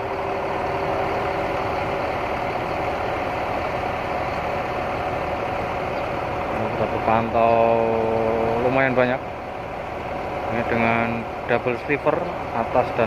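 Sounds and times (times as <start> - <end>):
bus diesel engine idling: 0.0 - 13.0.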